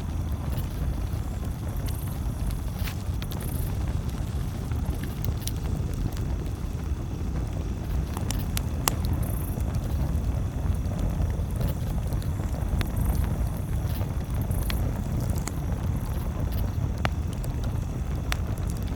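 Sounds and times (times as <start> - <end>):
campfire crackling and popping: 0.0 - 18.9
steady low rumble: 0.0 - 18.9.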